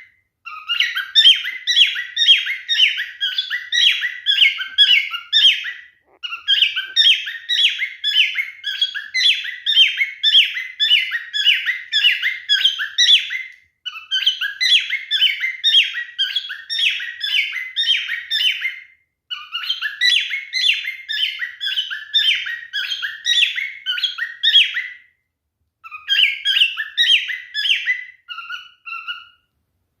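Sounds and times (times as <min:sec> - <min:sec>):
cockatiel chirping whistles: 0:00.0 - 0:25.1, 0:25.8 - 0:29.5.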